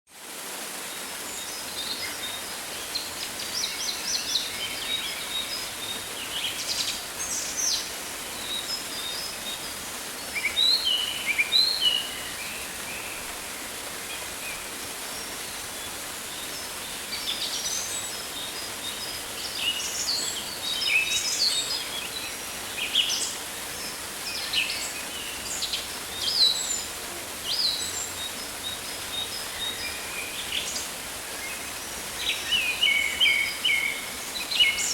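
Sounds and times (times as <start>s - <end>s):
steady background hiss: 0.2s - 34.9s.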